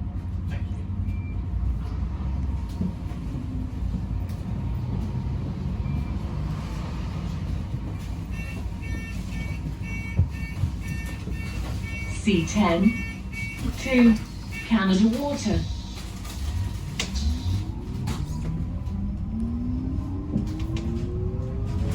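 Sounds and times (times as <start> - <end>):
bus rumbling in motion: 0.0 - 21.9.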